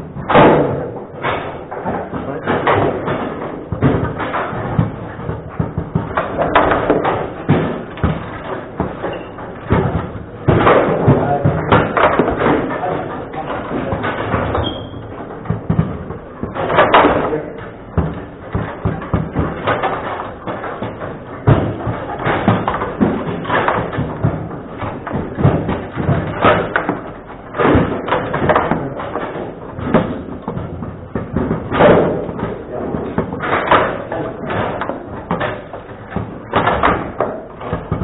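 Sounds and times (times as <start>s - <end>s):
table football ball knocking: 2.6s - 13.1s, 13.8s - 38.0s.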